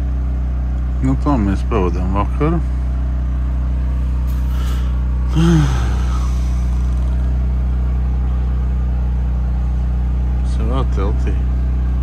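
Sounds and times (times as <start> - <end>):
diesel machinery humming: 0.0 - 12.0.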